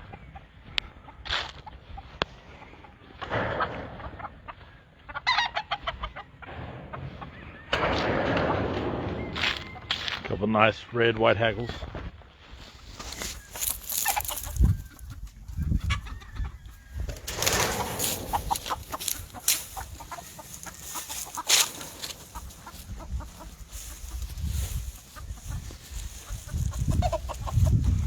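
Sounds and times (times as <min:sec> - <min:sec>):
chickens clucking: 0:00.0 - 0:10.3, 0:11.2 - 0:28.0.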